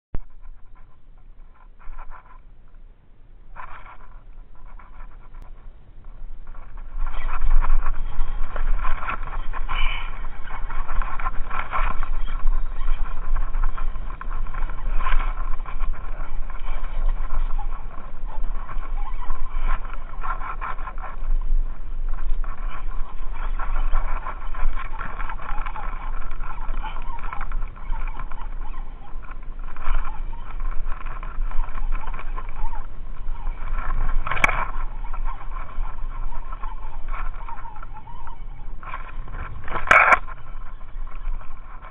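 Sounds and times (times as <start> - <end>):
wind buffeting the microphone: 0.2 - 41.9.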